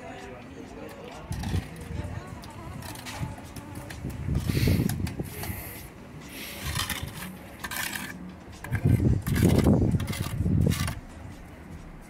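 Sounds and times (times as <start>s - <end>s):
trowel scraping on brick: 1.2s - 11.1s.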